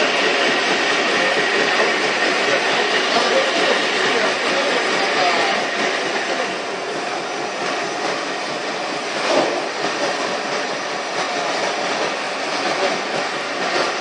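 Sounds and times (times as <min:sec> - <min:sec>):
briquette machine running: 0:00.0 - 0:14.0.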